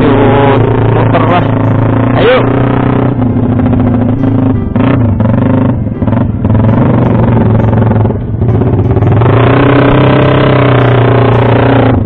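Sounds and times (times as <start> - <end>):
distorted guitar music: 0.0 - 12.0
motorcycle engines running: 0.0 - 12.0.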